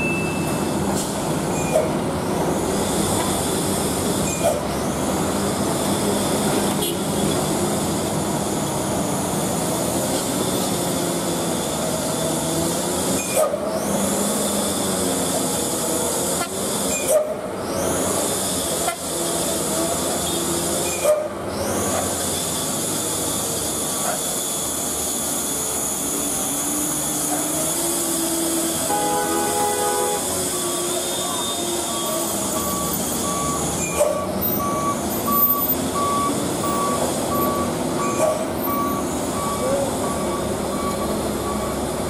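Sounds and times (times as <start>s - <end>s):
diesel truck engines droning: 0.0s - 42.0s.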